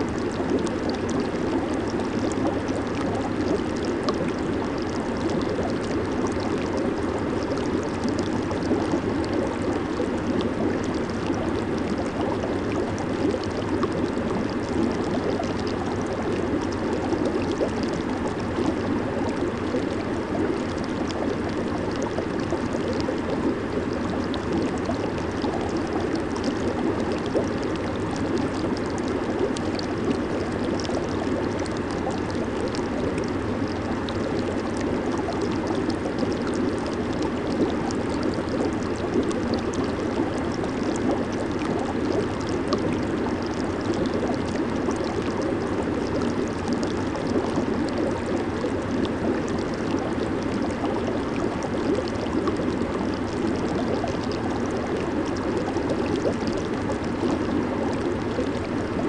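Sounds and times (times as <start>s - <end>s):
hot tub jets bubbling water: 0.0s - 59.0s.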